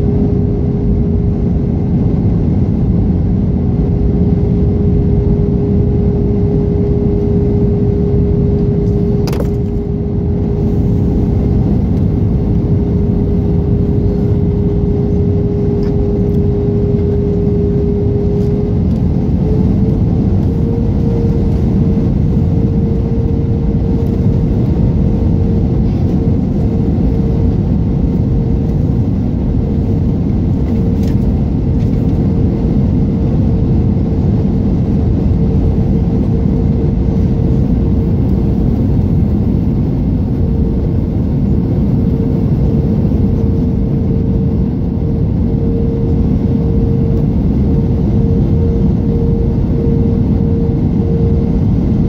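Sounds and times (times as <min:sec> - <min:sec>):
airflow and engine rush: 0:00.0 - 0:52.0
steady hum: 0:00.0 - 0:52.0.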